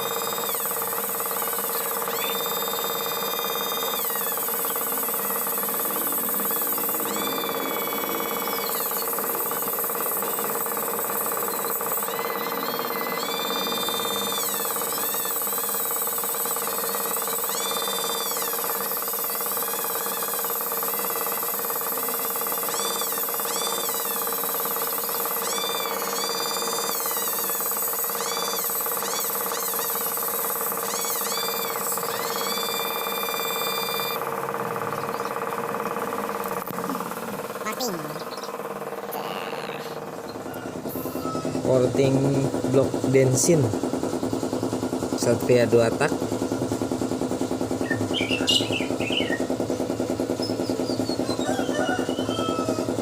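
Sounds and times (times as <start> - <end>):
rotary grinder whining on metal: 0.0 - 53.0.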